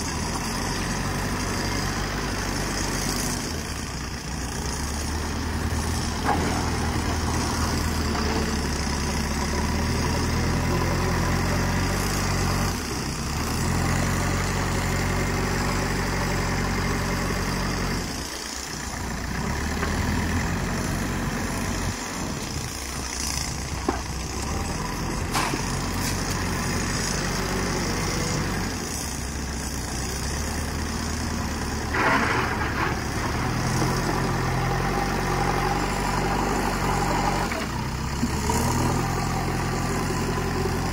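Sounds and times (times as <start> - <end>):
diesel engine under varying load: 0.0 - 40.9.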